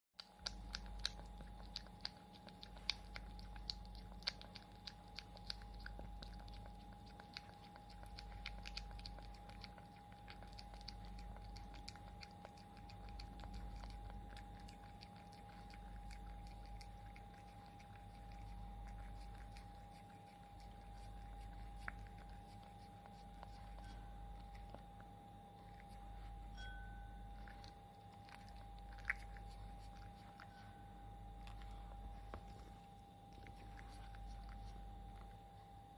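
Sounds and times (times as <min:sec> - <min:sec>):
kitten licking wet clicks: 0:00.2 - 0:26.6, 0:27.2 - 0:35.4
faint steady whine: 0:00.2 - 0:35.9.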